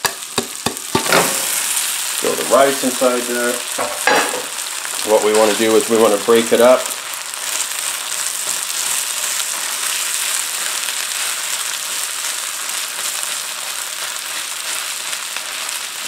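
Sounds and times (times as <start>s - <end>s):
rice sizzling in a wok: 0.0s - 16.0s.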